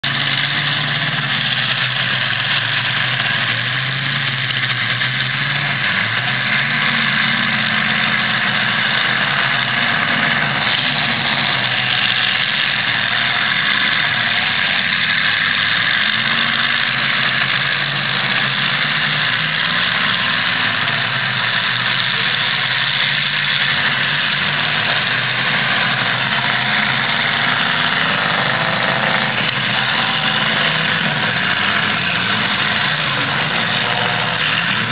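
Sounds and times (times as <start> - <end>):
car engines revving: 0.0 - 34.9
dense steady noise: 0.0 - 34.9.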